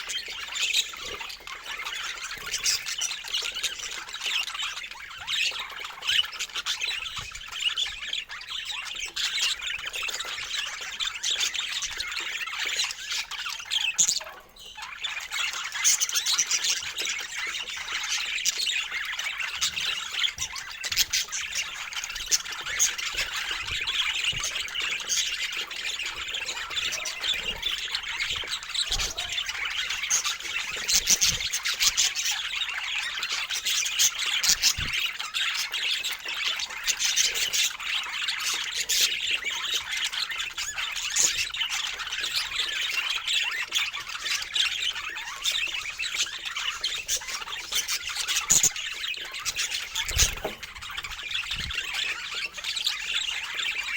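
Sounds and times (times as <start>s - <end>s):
birds chattering and squawking: 0.0s - 53.9s.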